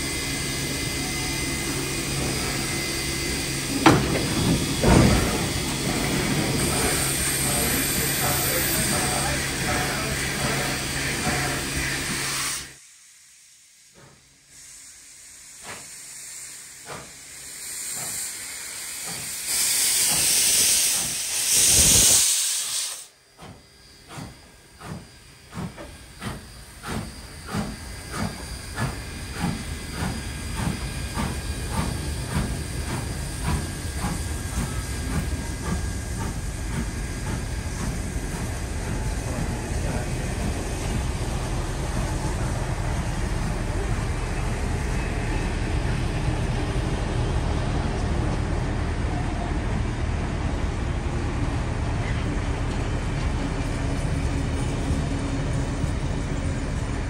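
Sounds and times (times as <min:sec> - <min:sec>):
loud hiss of steam: 0:00.0 - 0:47.8
steam locomotive exhaust chuffs: 0:00.0 - 0:57.0.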